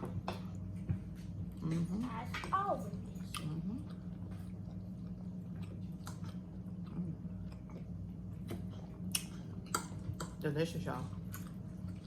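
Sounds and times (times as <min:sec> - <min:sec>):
person chewing food: 0:00.0 - 0:10.4, 0:11.1 - 0:12.0
steady low hum: 0:00.0 - 0:12.0.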